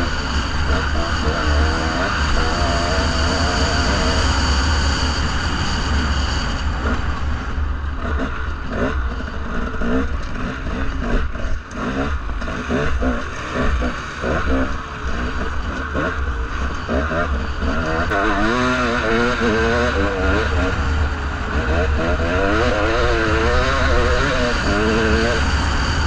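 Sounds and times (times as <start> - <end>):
dirt bike engine revving: 0.0 - 26.0
steady low rumble: 0.0 - 26.0.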